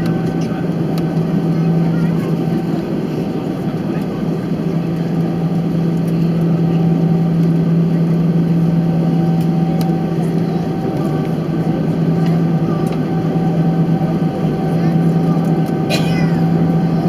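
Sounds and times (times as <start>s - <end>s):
aircraft cabin engine drone: 0.0s - 17.0s.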